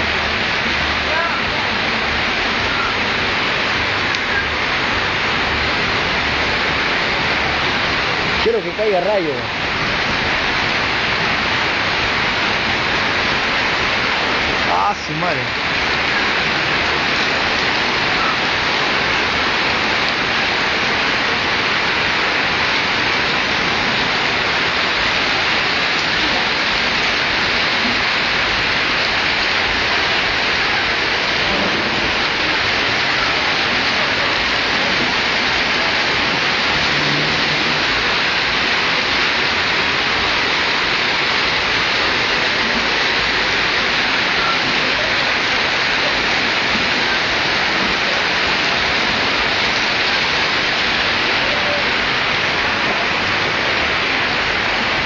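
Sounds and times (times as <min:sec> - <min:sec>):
heavy rain on roofs: 0:00.0 - 0:55.0.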